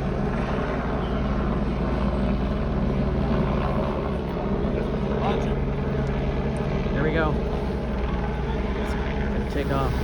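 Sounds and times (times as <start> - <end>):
aircraft rotors droning: 0.0 - 10.0.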